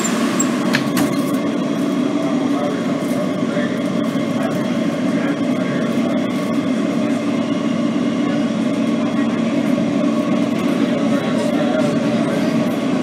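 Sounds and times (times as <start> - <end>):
subway car running: 0.0 - 13.0.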